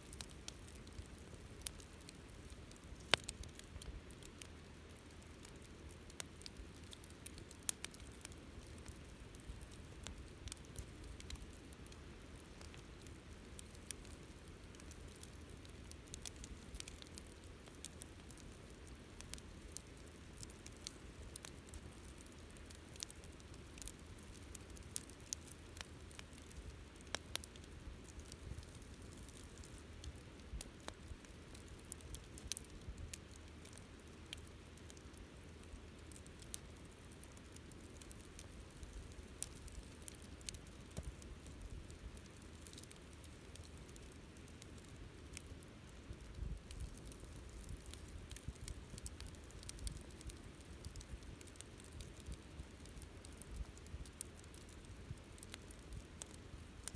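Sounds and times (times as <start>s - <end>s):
bonfire snaps and pops: 0.0s - 56.9s
low rumble of burning fire: 0.0s - 56.9s.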